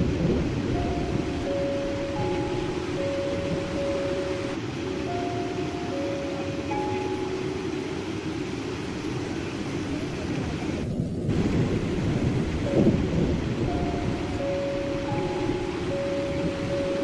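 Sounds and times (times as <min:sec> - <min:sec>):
soft sustained music: 0:00.0 - 0:10.3, 0:12.6 - 0:17.0
heavy rain hiss: 0:00.0 - 0:17.0
thunder rumble: 0:00.0 - 0:17.0.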